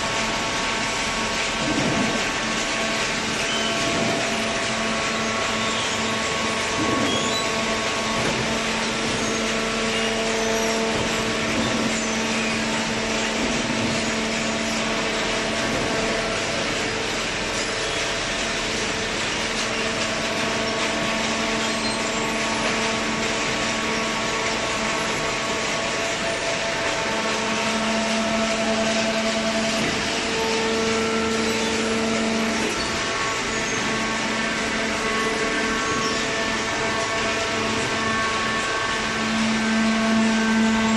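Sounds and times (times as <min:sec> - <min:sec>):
baler mechanical drone: 0:00.0 - 0:40.9.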